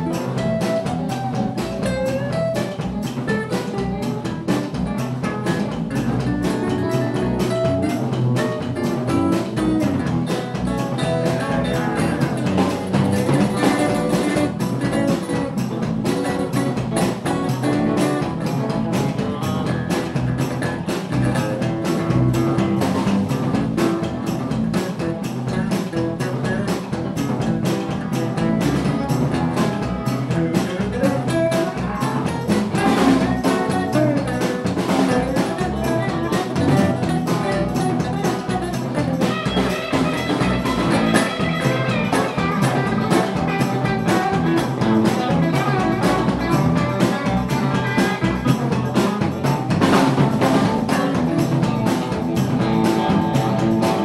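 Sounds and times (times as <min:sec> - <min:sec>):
electric blues band playing: 0:00.0 - 0:54.0.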